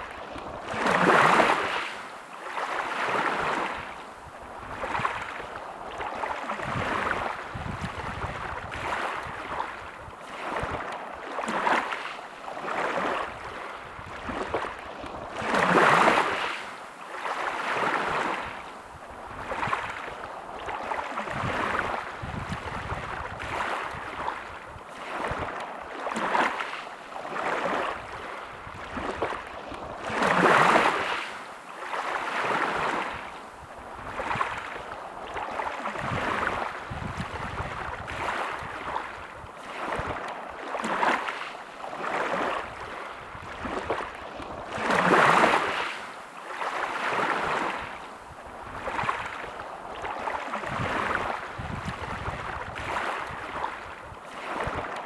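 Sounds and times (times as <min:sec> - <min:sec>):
small waves washing on shore: 0:00.0 - 0:55.0.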